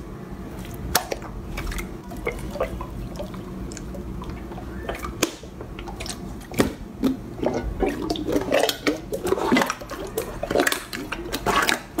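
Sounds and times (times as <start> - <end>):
slime squelching: 0.4 - 12.0.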